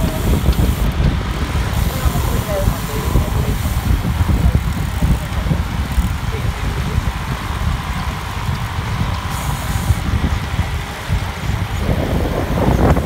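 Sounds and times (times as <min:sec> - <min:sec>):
tyres hissing on asphalt: 0:00.0 - 0:13.0
wind buffeting microphone: 0:00.0 - 0:13.0.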